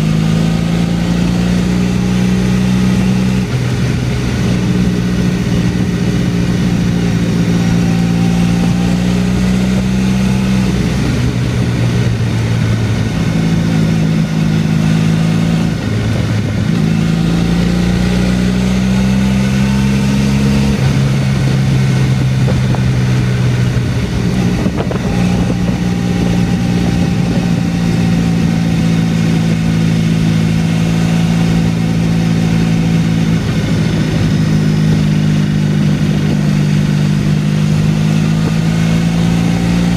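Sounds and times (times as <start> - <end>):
motorcycle engine running: 0.0 - 39.9
wind rush: 0.1 - 39.9.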